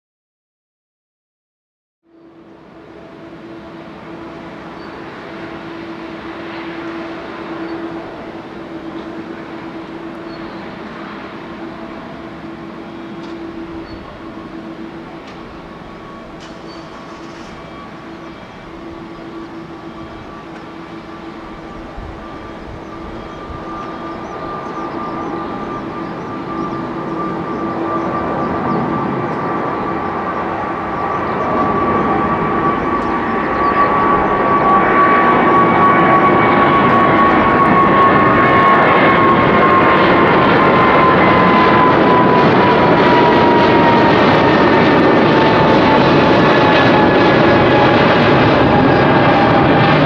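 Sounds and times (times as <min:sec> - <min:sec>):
jet engine whine: 0:02.1 - 0:50.0
jet engines rumbling: 0:02.1 - 0:50.0.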